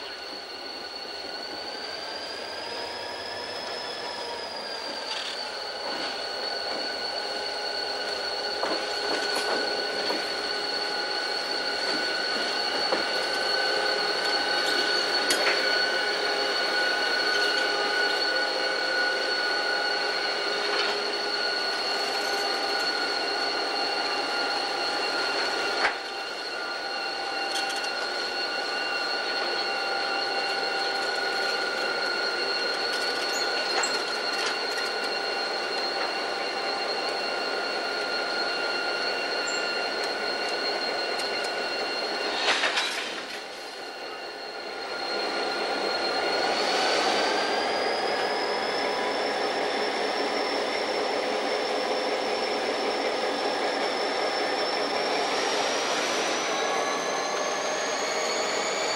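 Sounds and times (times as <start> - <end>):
train wheels squealing on rails: 0.0 - 58.9.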